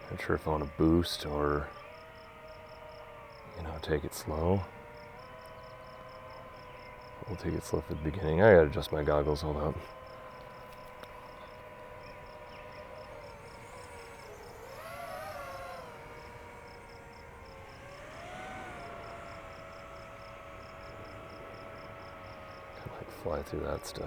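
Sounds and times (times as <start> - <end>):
crickets chirping: 0.0 - 24.0
drone propellers humming: 0.0 - 24.0.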